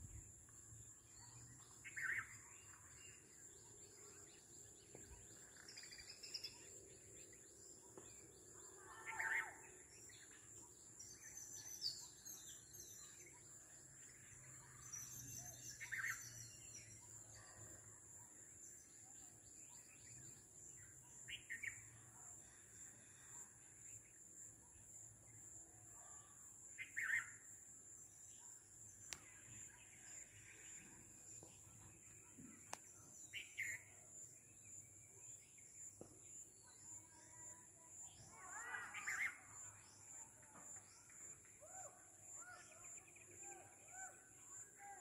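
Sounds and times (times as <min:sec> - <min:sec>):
faint birdsong: 0:00.0 - 0:45.0.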